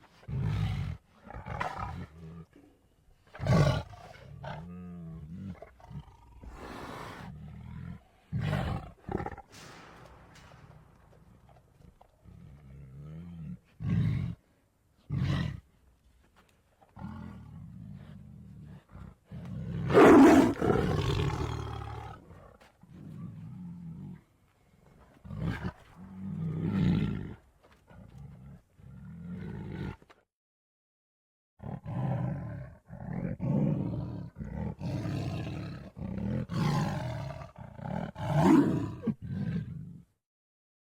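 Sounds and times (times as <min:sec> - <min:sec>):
big cat growls and snarls: 0:00.0 - 0:02.7, 0:03.3 - 0:15.7, 0:16.8 - 0:24.3, 0:24.9 - 0:30.3, 0:31.6 - 0:40.2
big cat roar: 0:00.2 - 0:02.6, 0:03.3 - 0:14.4, 0:16.9 - 0:24.3, 0:25.2 - 0:30.1, 0:31.6 - 0:40.1.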